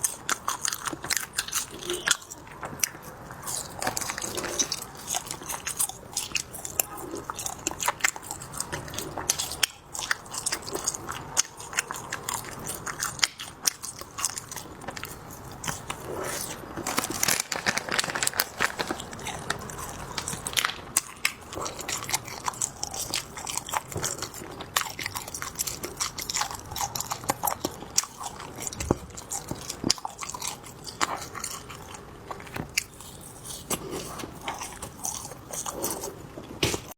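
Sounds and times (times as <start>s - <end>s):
wet chewing with crunches: 0.0s - 36.9s.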